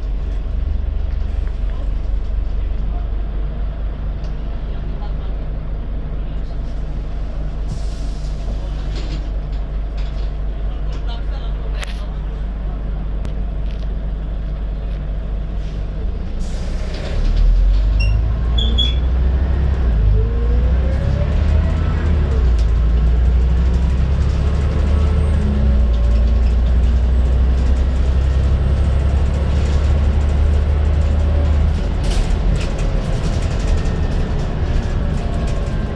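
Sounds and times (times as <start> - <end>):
bus engine rumble: 0.0 - 35.9.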